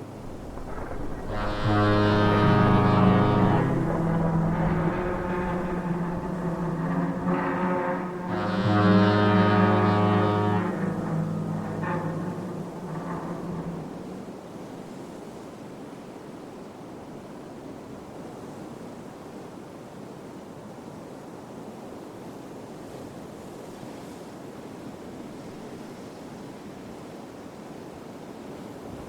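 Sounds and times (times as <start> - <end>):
sea and wind: 0.0 - 8.4, 9.0 - 29.0.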